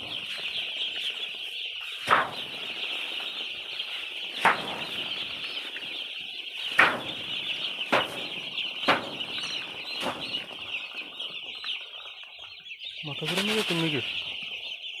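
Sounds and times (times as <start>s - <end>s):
wings flapping: 0.0s - 12.2s, 13.0s - 14.3s
chickens chirping: 0.0s - 15.0s.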